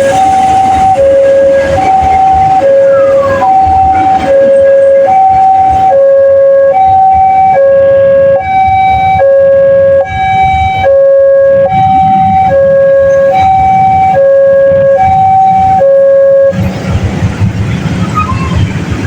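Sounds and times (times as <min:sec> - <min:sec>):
two-tone crossing siren: 0:00.0 - 0:16.8
traffic rumble: 0:00.0 - 0:19.0.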